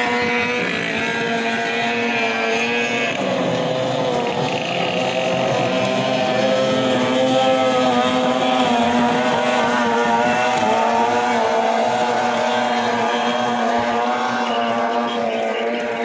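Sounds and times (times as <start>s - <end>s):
outboard motors running flat out: 0.0s - 16.0s.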